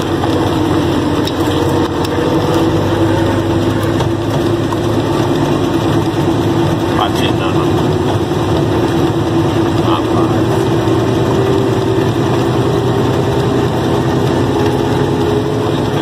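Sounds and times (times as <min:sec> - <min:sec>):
steady whine: 0:00.0 - 0:16.0
truck engine droning: 0:00.0 - 0:16.0.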